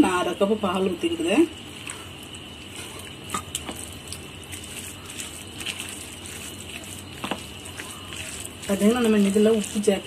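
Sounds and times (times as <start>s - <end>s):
spoon mashing wet rice: 1.7s - 10.0s.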